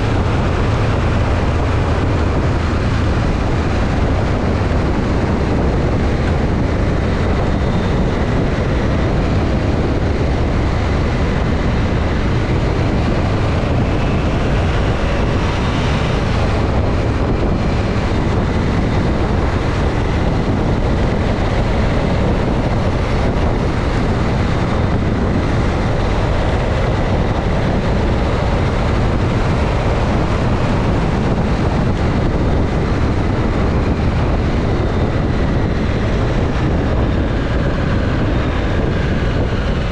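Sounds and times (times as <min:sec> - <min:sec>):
motorcycle engine: 0:00.0 - 0:39.9
wind noise on microphone: 0:00.0 - 0:39.9.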